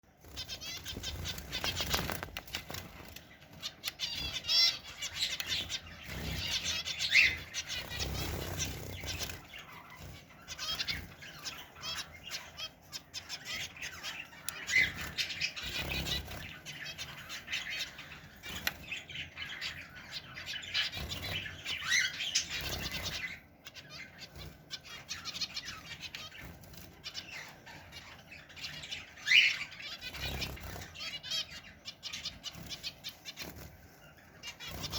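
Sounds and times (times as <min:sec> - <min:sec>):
finches chirping and twittering: 0:00.0 - 0:34.9.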